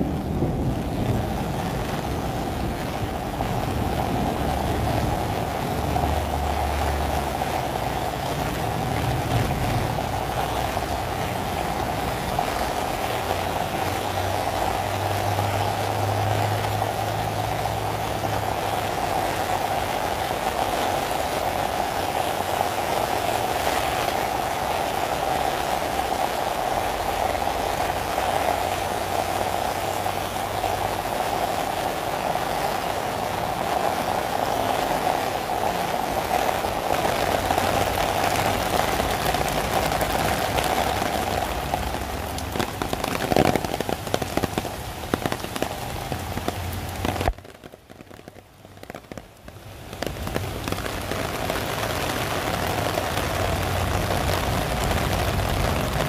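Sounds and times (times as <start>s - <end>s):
heavy rain on an umbrella: 0.0s - 56.0s.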